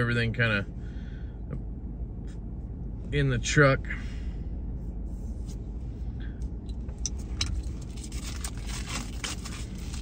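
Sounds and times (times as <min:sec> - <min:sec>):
truck cab rumble: 0:00.0 - 0:10.0.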